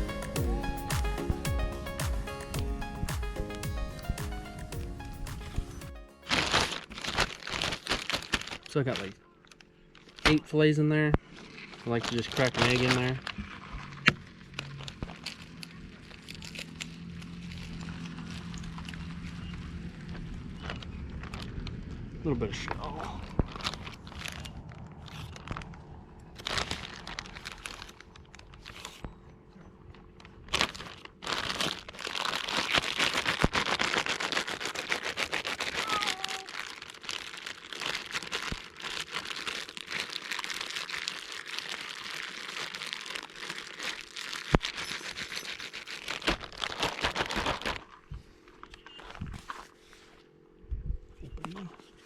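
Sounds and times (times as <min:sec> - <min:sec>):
plastic bag crinkling: 0:05.0 - 0:49.9.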